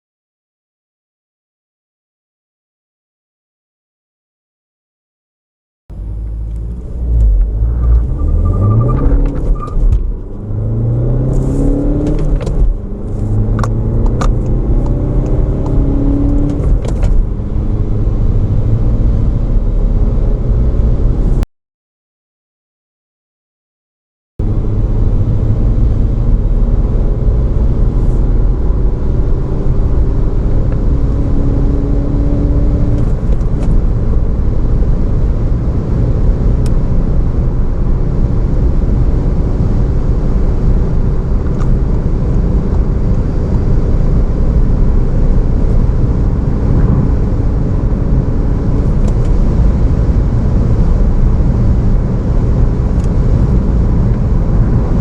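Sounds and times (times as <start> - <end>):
car diesel engine accelerating: 5.9 - 21.4, 24.4 - 55.0.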